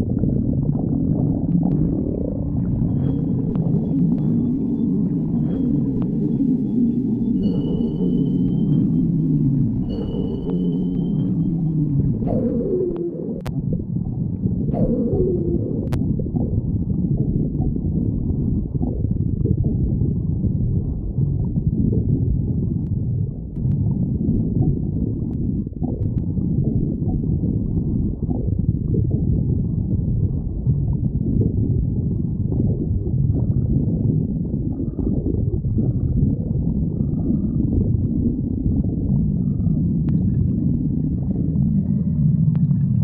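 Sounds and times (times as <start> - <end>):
stomach growling and gurgling: 0.0 - 43.0.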